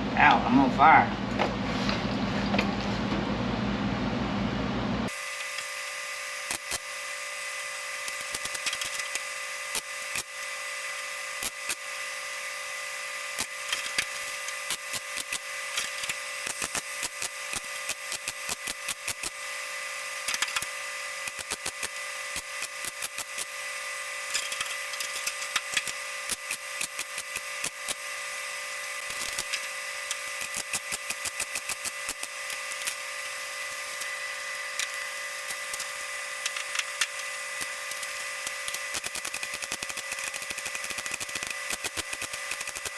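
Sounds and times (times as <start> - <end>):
welding arc crackling: 5.1 - 42.9.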